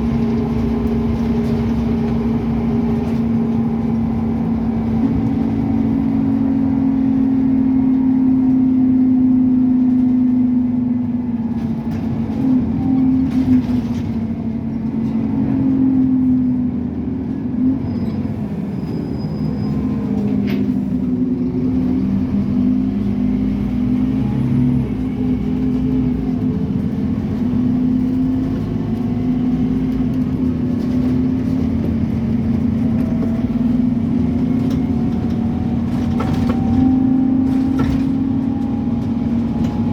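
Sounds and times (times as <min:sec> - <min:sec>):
bus diesel engine pulling hard: 0:00.0 - 0:39.9.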